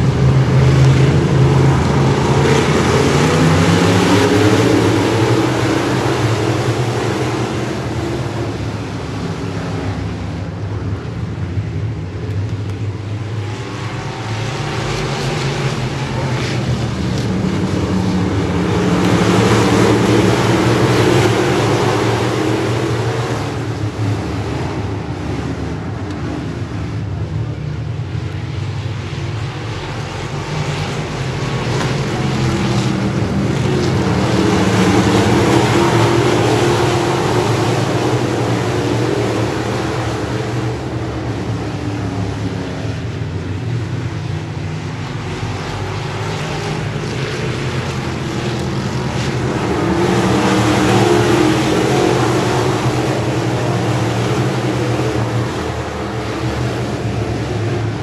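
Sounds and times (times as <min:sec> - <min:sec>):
stock car engines racing: 0:00.0 - 0:58.0.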